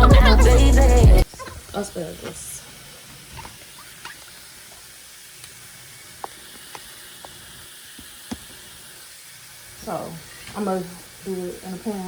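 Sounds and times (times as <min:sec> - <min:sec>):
steaks sizzling in a pan: 0:01.4 - 0:12.0.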